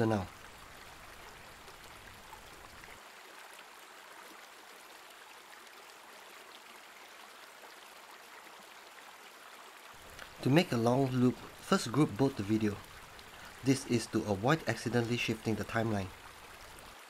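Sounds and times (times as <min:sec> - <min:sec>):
stream running over stones: 0:00.0 - 0:17.0.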